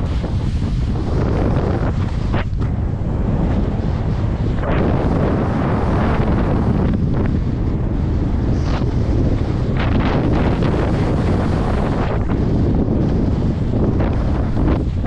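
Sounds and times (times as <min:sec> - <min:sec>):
skis sliding through snow: 0:00.0 - 0:07.3, 0:08.0 - 0:15.0
wind buffeting microphone: 0:00.0 - 0:15.0.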